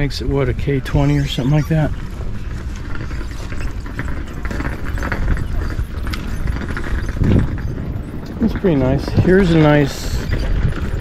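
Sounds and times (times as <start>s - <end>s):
faint voices: 0.0s - 11.0s
wind on microphone: 0.0s - 11.0s.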